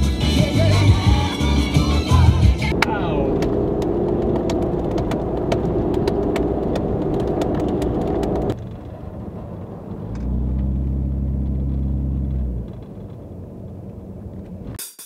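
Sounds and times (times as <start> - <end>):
steady low drone: 0.0 - 14.8
vehicle engine and road rumble: 0.0 - 14.8.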